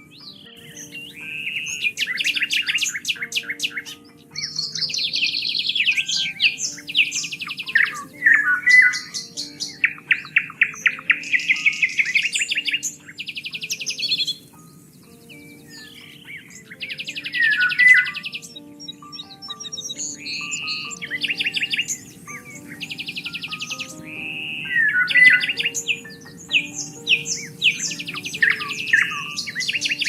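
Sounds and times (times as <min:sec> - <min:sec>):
soft background music: 0:00.0 - 0:30.0
songbird singing: 0:00.0 - 0:30.0.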